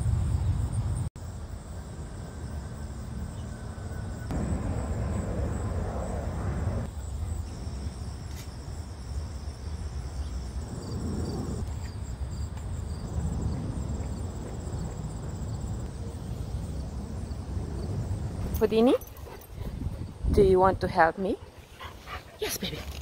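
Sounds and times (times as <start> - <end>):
insects chirping in trills: 0.0 - 20.3.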